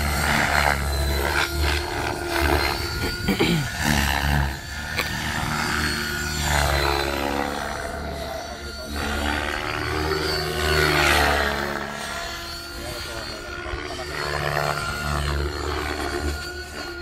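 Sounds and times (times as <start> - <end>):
model helicopter flying overhead: 0.0 - 17.0.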